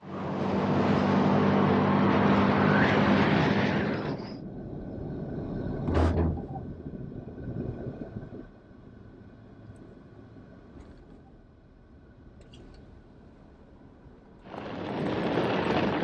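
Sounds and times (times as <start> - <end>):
road and tyre noise: 0.0 - 16.0
truck engine hum: 0.0 - 16.0.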